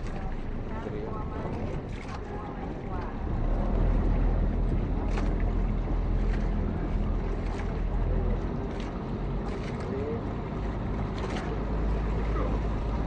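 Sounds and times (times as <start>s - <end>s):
boat engine droning: 0.0s - 13.0s
rushing water: 0.0s - 13.0s
wind: 0.0s - 13.0s.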